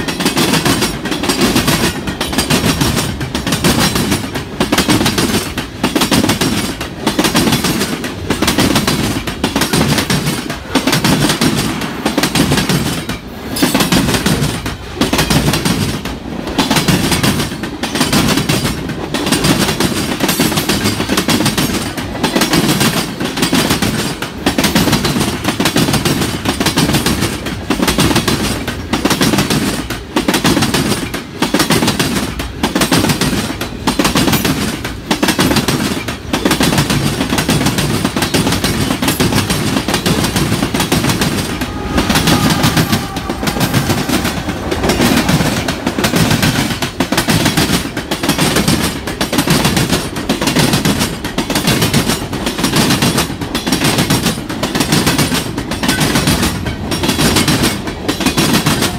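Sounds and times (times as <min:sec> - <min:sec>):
train wheels clacking over rail joints: 0:00.0 - 0:58.9.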